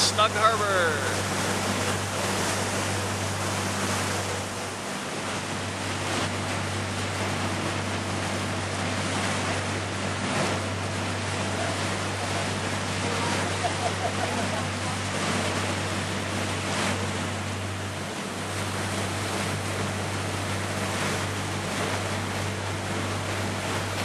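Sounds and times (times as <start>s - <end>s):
boat engine drone: 0.0s - 24.0s
water rushing past hull: 0.0s - 24.0s
wind: 0.0s - 24.0s.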